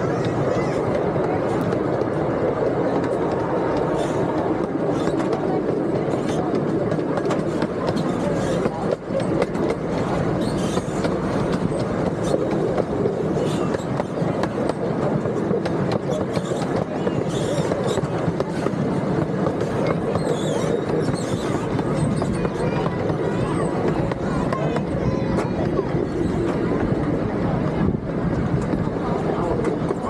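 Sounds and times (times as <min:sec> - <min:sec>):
rumble of wheels on rail: 0:00.0 - 0:30.0.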